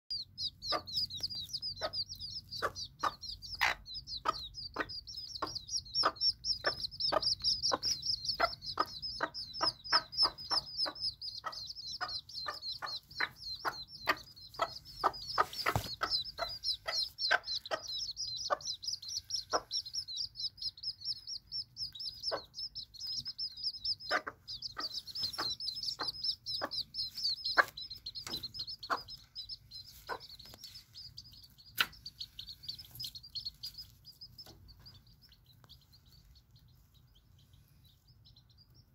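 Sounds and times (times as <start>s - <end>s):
hen clucking: 0.1s - 38.7s
chicks peeping: 0.1s - 38.9s.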